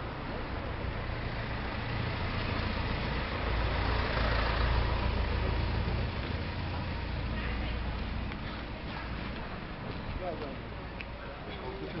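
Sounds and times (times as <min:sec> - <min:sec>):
street noise: 0:00.0 - 0:12.0
vehicle engine rumble: 0:00.0 - 0:12.0.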